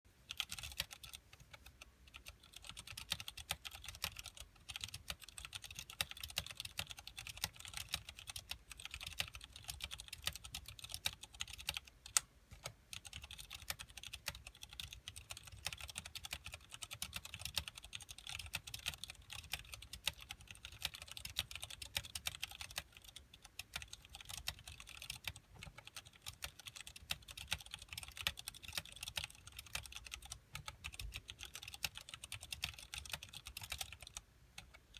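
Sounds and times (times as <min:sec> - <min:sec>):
fast mechanical keyboard typing: 0:00.2 - 0:34.9.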